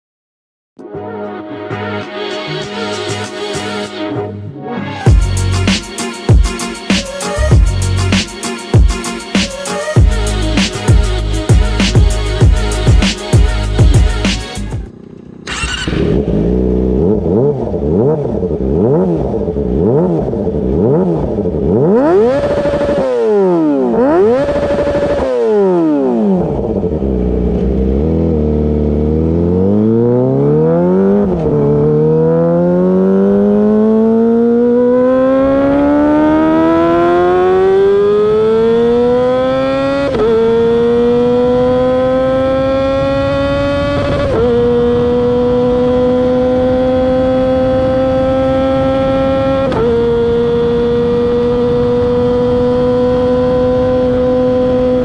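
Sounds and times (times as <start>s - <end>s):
motorcycle engine revving: 9.5s - 55.0s.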